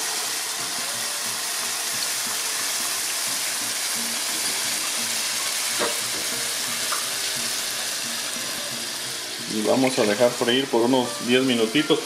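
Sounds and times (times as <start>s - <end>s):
sauce sizzling in a frying pan: 0.0s - 12.0s.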